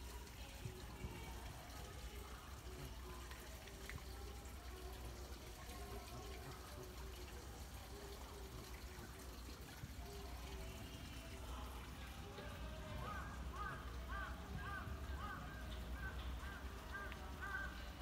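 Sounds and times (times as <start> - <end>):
water trickling into pond: 0.0 - 18.0.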